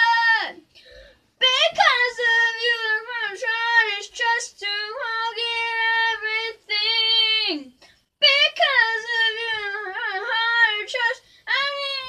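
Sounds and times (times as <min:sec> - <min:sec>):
child singing unaccompanied: 0:01.4 - 0:12.0.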